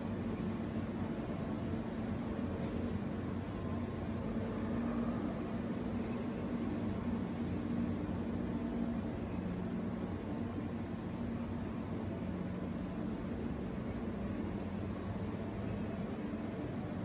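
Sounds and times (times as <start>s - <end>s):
machinery hum: 0.1s - 17.0s.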